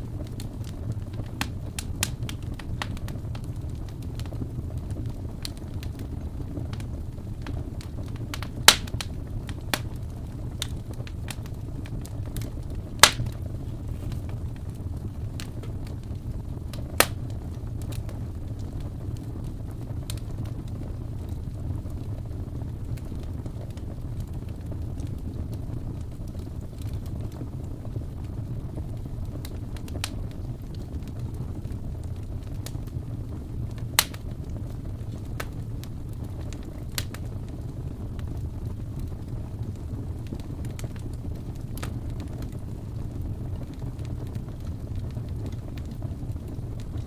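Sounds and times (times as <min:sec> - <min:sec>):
loud pops of burning wood: 0:00.0 - 0:47.0
wood fire crackling: 0:00.0 - 0:47.0.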